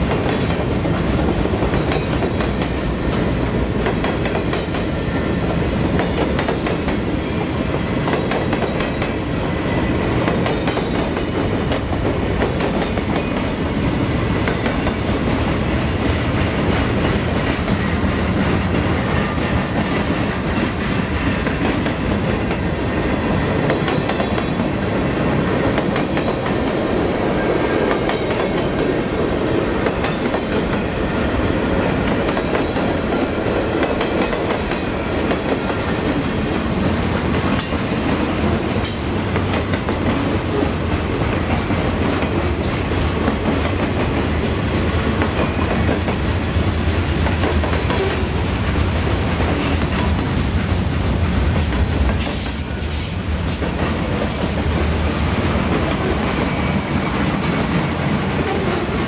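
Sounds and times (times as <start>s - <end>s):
clickety-clack over rail joints: 0.0s - 9.4s, 10.0s - 13.6s, 14.3s - 24.8s, 25.5s - 26.9s, 27.8s - 31.0s, 31.8s - 59.0s
freight train wheels rumbling on rail: 0.0s - 59.0s.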